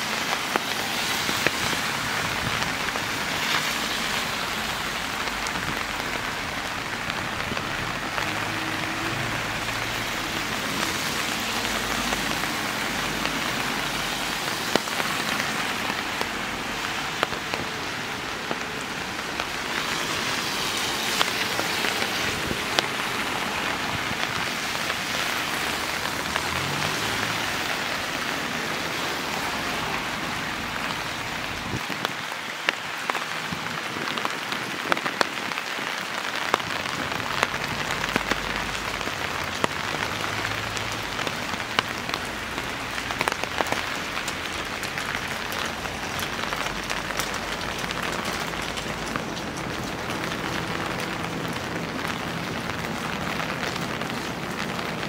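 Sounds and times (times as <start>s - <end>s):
raindrops ticking close by: 0.0s - 55.0s
steady rain hiss: 0.0s - 55.0s.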